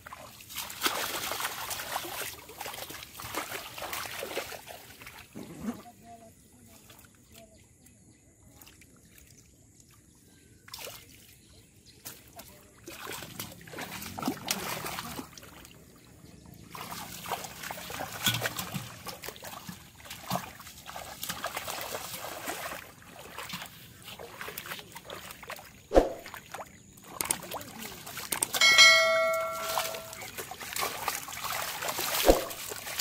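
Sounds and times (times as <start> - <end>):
muddy water splashing: 0.0 - 7.6, 8.4 - 33.0.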